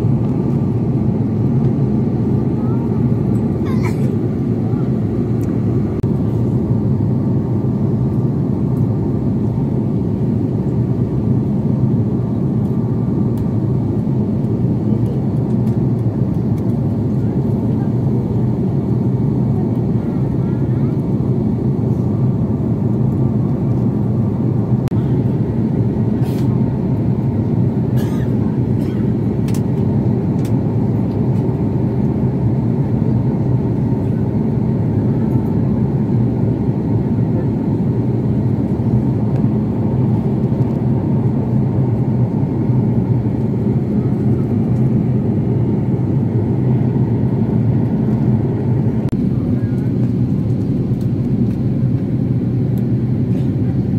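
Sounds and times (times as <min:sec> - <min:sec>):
jet engine rumble in cabin: 0:00.0 - 0:53.9.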